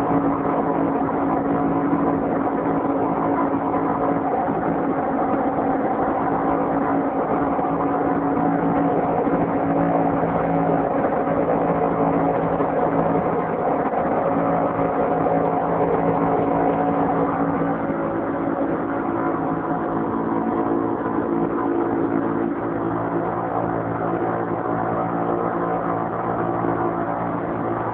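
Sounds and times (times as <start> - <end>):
outboard motor drone: 0.0 - 27.9.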